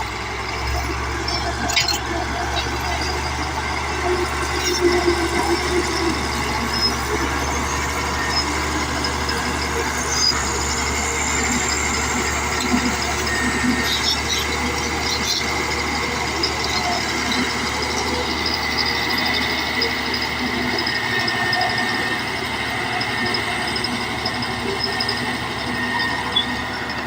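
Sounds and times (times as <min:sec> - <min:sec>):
bulldozer diesel engine under load: 0:00.0 - 0:27.0
clatter of bulldozer tracks: 0:00.0 - 0:27.0
thin high squeal: 0:01.2 - 0:27.0.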